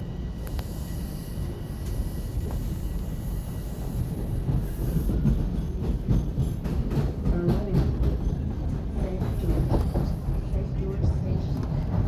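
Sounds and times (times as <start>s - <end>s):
clicks and knocks of train: 0.0s - 12.0s
subway train rumbling: 0.0s - 12.0s.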